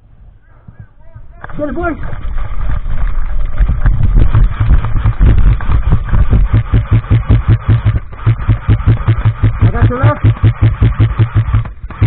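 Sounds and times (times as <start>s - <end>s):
rustle and rumble: 0.0s - 10.7s
running footfalls jolting microphone: 0.7s - 12.0s.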